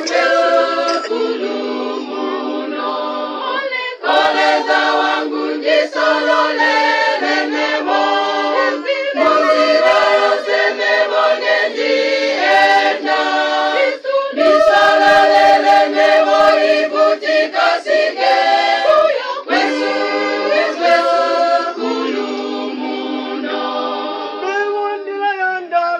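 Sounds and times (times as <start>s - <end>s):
choir singing a cappella: 0.0s - 24.8s.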